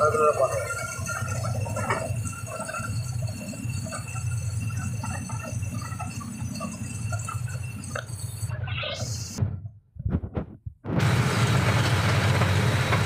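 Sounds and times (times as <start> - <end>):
road noise hiss: 0.0 - 9.4, 10.9 - 13.0
vehicle engine drone: 0.0 - 9.6, 10.9 - 13.0.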